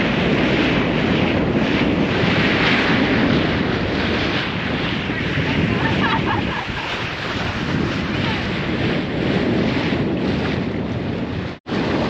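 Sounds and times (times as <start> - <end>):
water rushing along hull: 0.0 - 12.0
wind buffeting microphone: 0.0 - 12.0.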